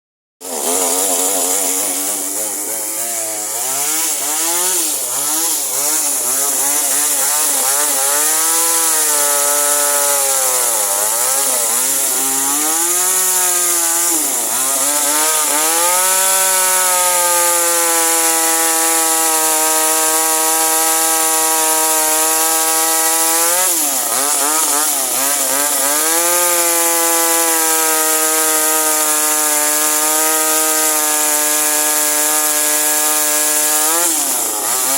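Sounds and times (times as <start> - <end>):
chainsaw cutting wood: 0.4 - 34.9.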